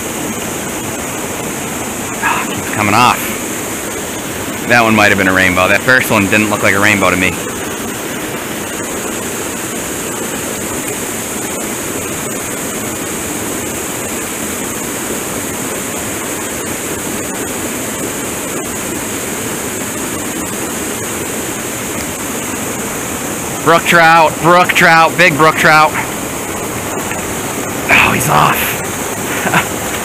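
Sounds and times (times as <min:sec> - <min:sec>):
water rushing into a pool: 0:00.0 - 0:30.0.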